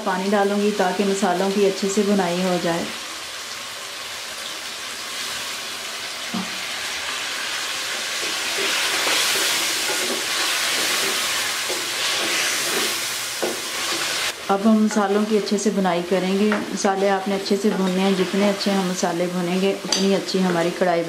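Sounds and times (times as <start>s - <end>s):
chicken sizzling in a pan: 0.2s - 20.9s.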